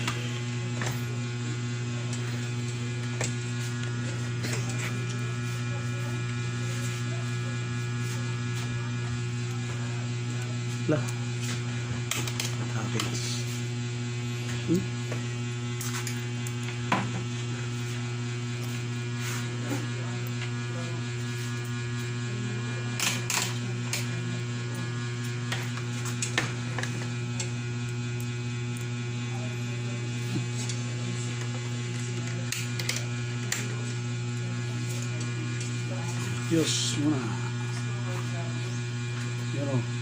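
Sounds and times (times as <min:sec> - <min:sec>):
amplifier mains hum: 0:00.0 - 0:40.0.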